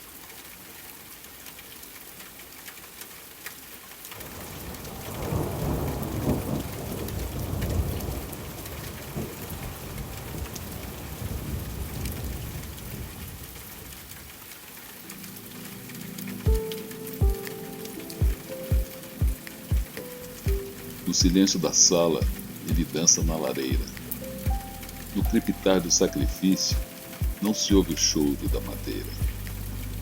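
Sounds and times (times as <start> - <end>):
wood fire crackling: 4.1 - 30.0.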